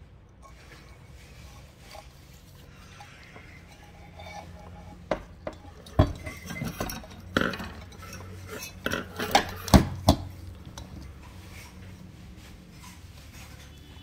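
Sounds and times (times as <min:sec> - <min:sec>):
quiet handling: 0:00.0 - 0:14.0
glass lamp parts clinking: 0:00.3 - 0:11.8.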